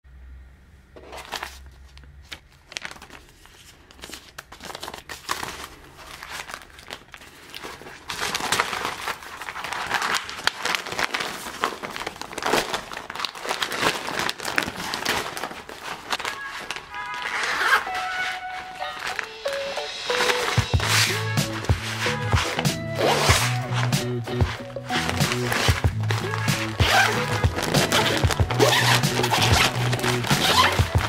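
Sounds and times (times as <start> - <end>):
plastic sheeting crinkling: 1.0 - 31.0.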